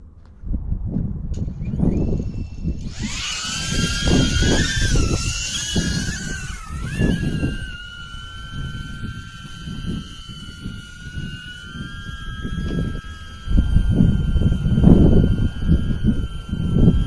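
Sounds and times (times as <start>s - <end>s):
wind rumbling on microphone: 0.0s - 17.0s
drone propellers whining: 1.4s - 17.0s.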